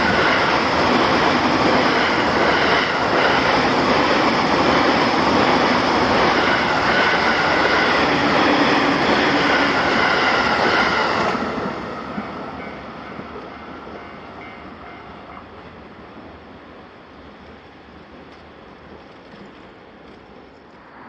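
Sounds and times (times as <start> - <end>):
train passing level crossing: 0.0 - 20.9.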